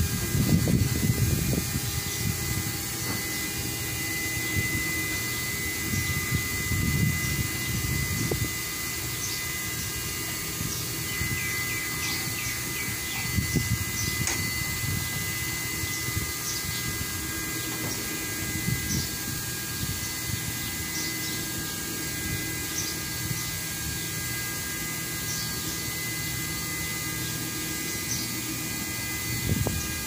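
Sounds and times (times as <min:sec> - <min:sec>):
machine hum with high whine: 0:00.0 - 0:30.0.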